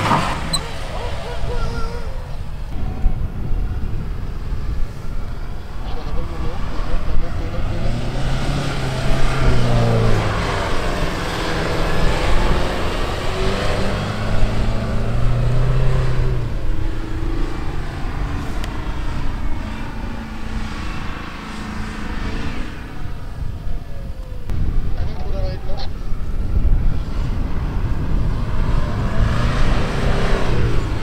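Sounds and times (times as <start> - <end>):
diesel engine revving: 0.0 - 25.0, 26.6 - 31.0.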